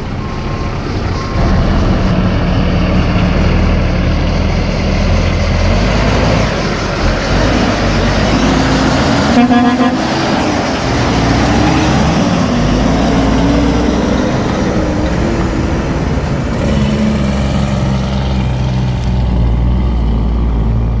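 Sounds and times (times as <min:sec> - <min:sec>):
diesel truck engine pulling away: 0:00.0 - 0:21.0.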